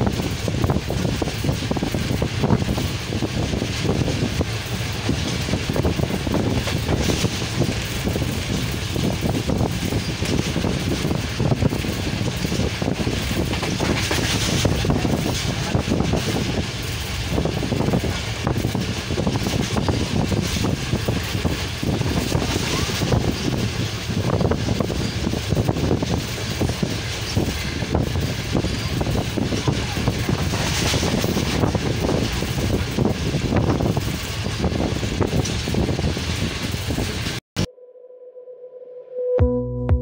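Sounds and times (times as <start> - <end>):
wheels clattering over rails: 0.0 - 37.4
train rumbling: 0.0 - 37.5.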